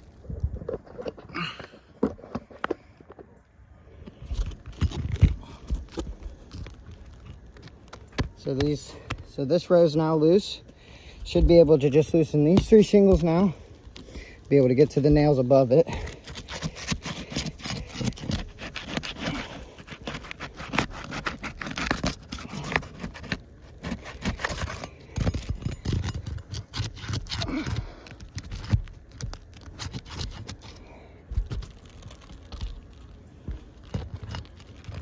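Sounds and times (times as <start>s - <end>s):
roof shingles scraping and crackling: 0.0s - 35.0s.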